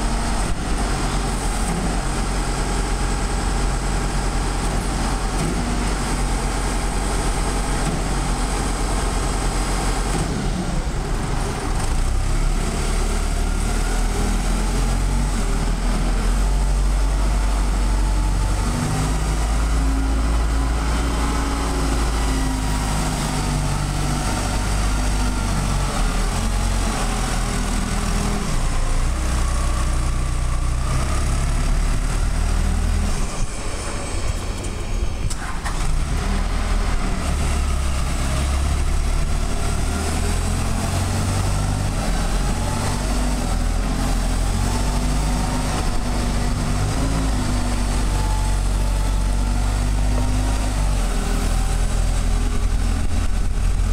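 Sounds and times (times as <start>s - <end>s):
forklift diesel engine running: 0.0s - 53.9s.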